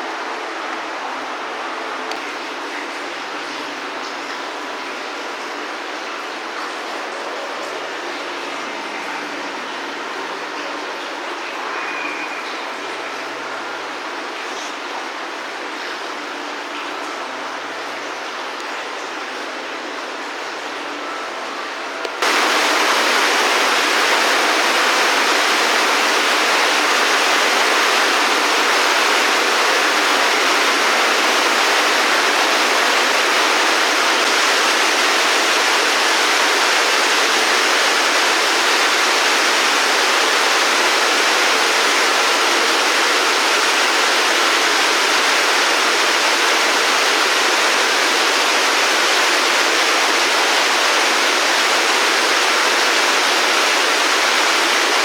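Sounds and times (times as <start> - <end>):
rushing running water: 0.0 - 55.0.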